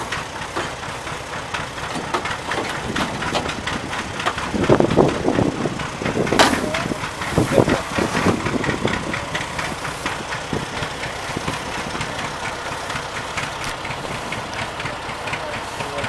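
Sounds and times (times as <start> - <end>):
tractor engine idling with knocking: 0.0 - 16.0.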